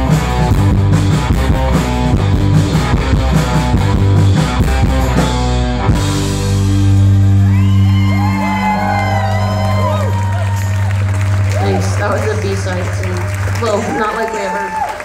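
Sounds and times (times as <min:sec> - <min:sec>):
drums: 0:00.0 - 0:15.0
electric guitar: 0:00.0 - 0:15.0
indie pop band playing: 0:00.0 - 0:15.0.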